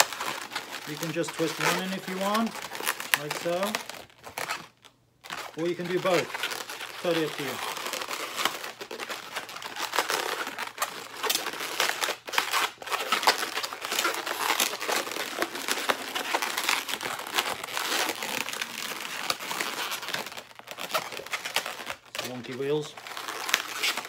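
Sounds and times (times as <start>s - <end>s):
balloons rubbing and crinkling: 0.0s - 24.0s.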